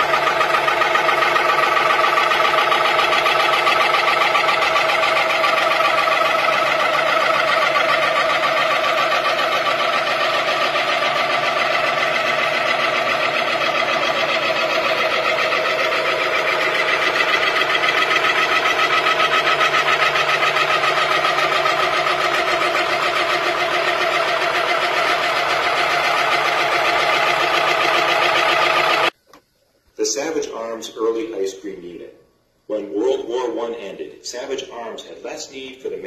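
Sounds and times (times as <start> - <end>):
refrigeration compressor humming: 0.0 - 33.4.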